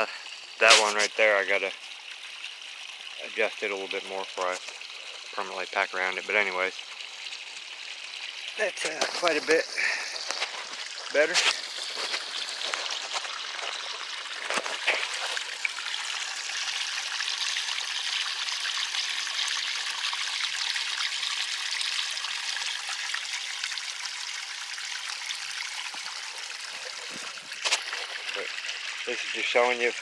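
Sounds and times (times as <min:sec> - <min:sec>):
water trickling: 0:00.0 - 0:30.0.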